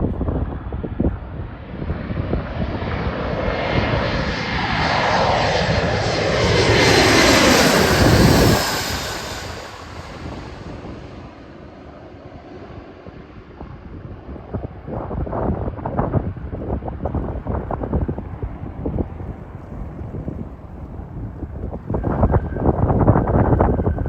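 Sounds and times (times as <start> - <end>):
jet airliner passing overhead: 0.0 - 24.0
wind buffeting microphone: 0.0 - 24.0.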